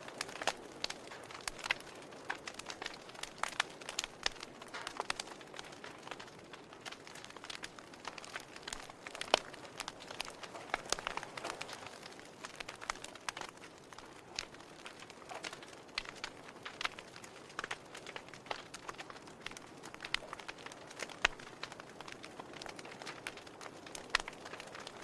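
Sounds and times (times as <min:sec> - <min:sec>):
faint steady hiss: 0:00.0 - 0:25.0
fire crackling and popping: 0:00.0 - 0:25.0.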